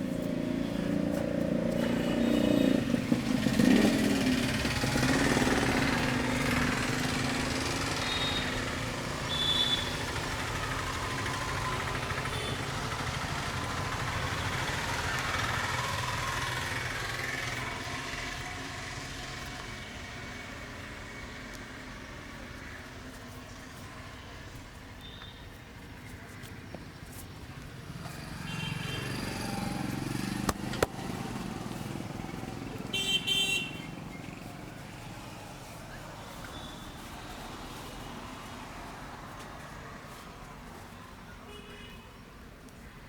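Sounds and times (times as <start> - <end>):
vehicle engine running: 0.0 - 25.0, 25.7 - 41.4
traffic noise: 0.0 - 43.0.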